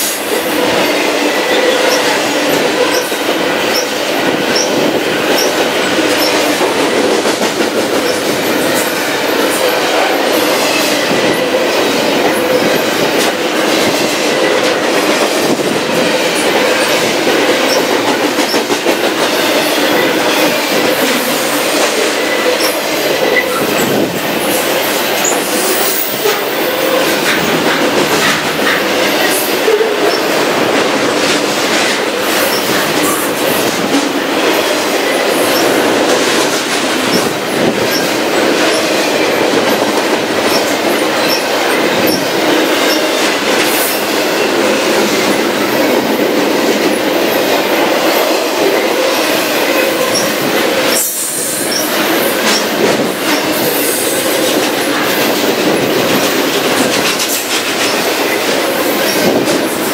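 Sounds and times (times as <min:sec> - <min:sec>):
freight train wheels rumbling: 0:00.0 - 0:59.9
wheels clicking over rail joints: 0:00.0 - 0:59.9.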